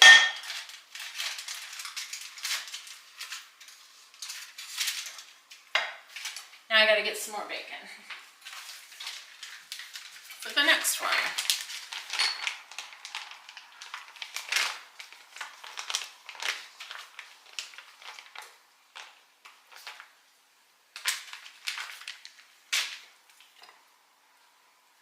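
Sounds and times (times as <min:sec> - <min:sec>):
plastic package crinkling: 0:00.0 - 0:06.7, 0:08.1 - 0:20.2, 0:20.9 - 0:23.8.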